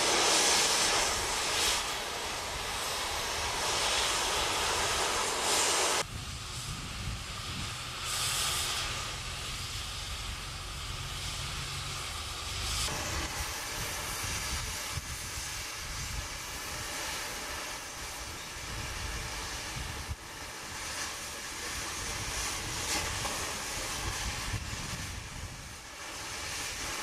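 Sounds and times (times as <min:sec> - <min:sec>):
steady hissing noise: 0:00.0 - 0:27.0.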